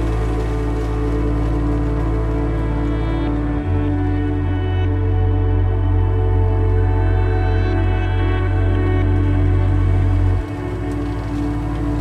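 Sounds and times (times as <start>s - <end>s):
ambient music with low drone: 0.0s - 12.0s.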